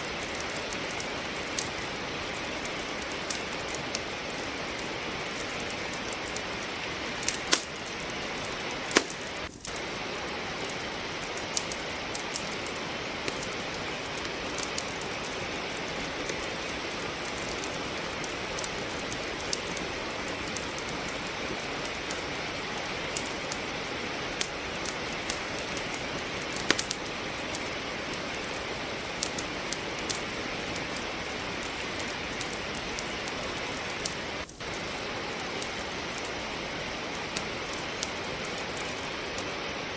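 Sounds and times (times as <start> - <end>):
rain hiss: 0.0 - 39.9
wood crackling in fireplace: 0.0 - 39.9.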